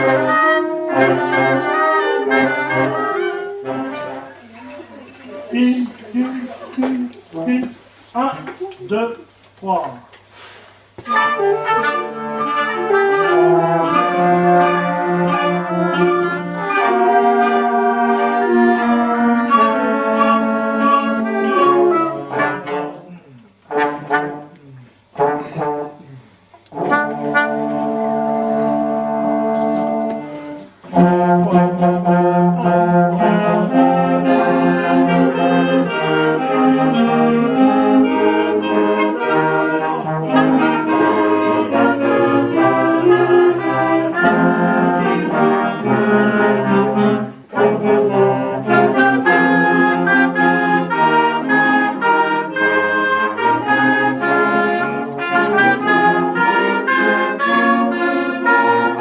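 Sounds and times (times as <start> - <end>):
wind band playing: 0.0 - 4.6, 11.0 - 59.0.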